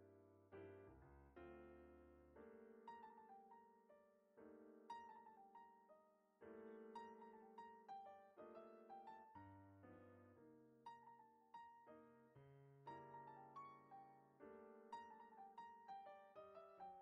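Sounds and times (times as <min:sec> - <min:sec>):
quiet piano music: 0:00.0 - 0:17.0.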